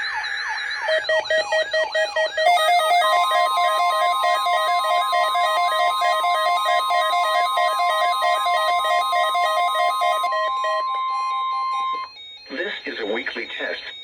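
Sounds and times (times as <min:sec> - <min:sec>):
warbling electronic alarm: 0:00.0 - 0:14.0
steady high warning tone: 0:00.8 - 0:14.0.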